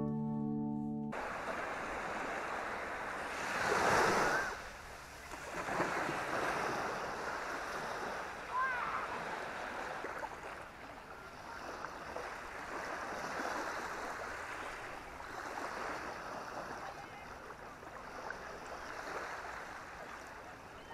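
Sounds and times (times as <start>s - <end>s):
small waves washing over sand: 1.2s - 20.9s.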